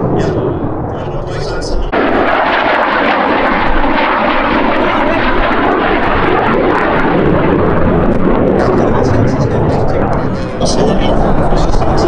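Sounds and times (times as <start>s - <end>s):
jet engine flying overhead: 0.0s - 12.0s.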